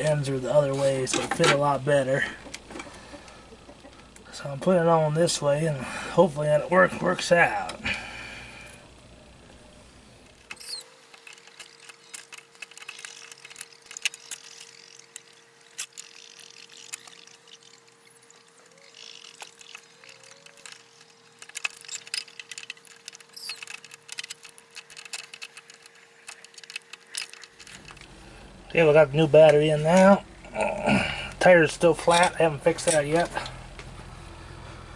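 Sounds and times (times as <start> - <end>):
faint hum: 0.0 - 34.9.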